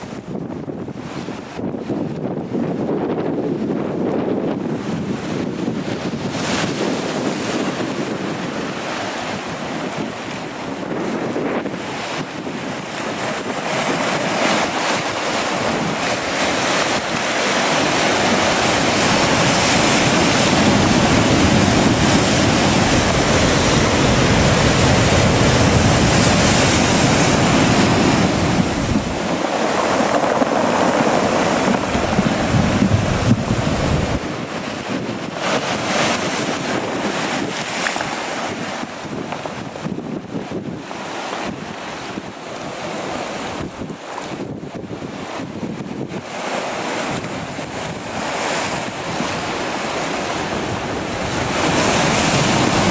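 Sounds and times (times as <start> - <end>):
surf: 0.0 - 52.9
wind buffeting microphone: 0.0 - 52.9.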